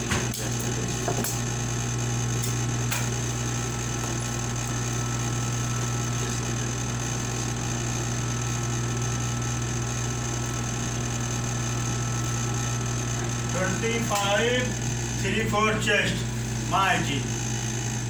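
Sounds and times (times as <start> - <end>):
sewing machine motor hum: 0.0 - 18.0.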